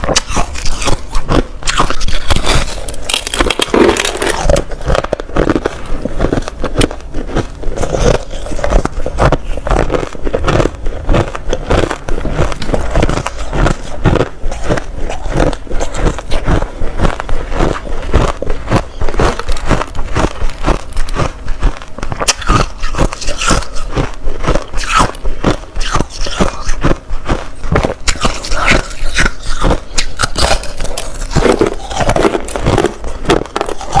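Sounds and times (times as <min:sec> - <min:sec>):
crushed ice being chewed: 0:00.0 - 0:34.0.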